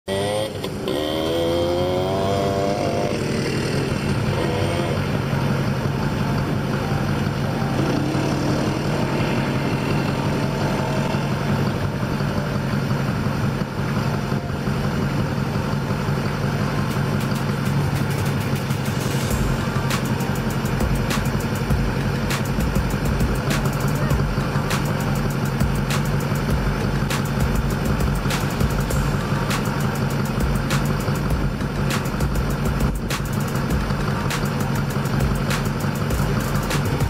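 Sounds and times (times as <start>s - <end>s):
atv engine idling and revving: 0.0s - 37.0s.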